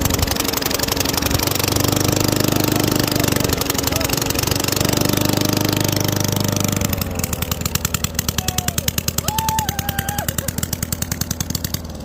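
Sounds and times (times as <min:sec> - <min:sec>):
lawn mower engine popping: 0:00.0 - 0:12.0.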